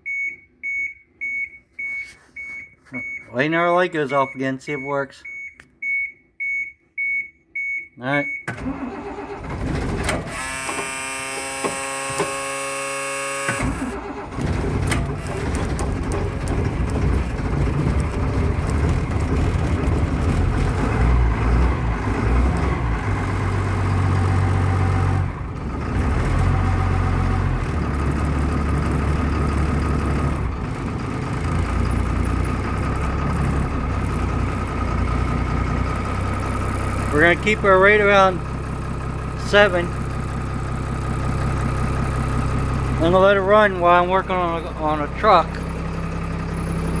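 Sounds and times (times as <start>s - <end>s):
starter motor whining: 8.4s - 47.0s
diesel engine running roughly: 8.6s - 47.0s.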